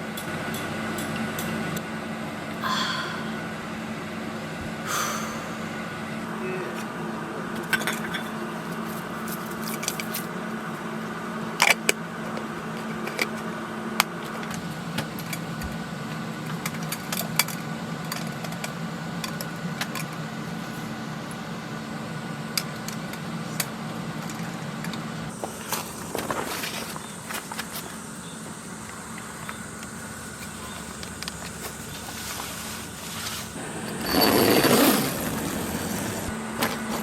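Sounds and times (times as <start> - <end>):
steady machine hum: 0.8 - 7.6, 10.3 - 37.0.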